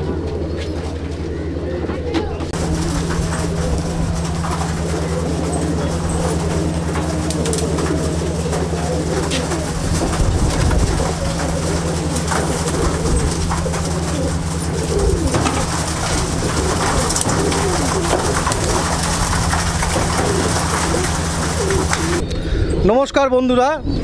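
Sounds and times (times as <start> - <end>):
pigeons cooing: 0.0 - 22.9
steady low hum: 0.0 - 22.9.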